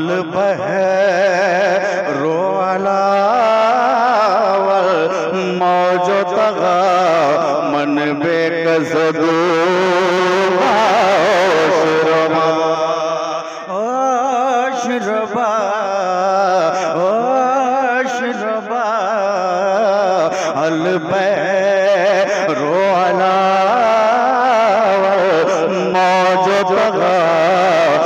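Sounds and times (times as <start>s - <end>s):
man singing into a microphone: 0.0s - 28.0s.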